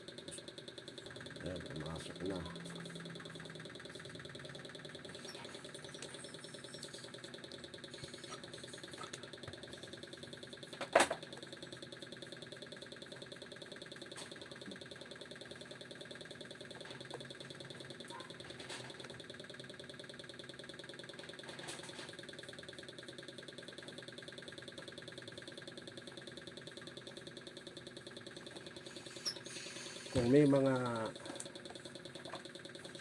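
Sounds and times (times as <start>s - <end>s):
mechanical hum with flutter: 0.0s - 33.0s.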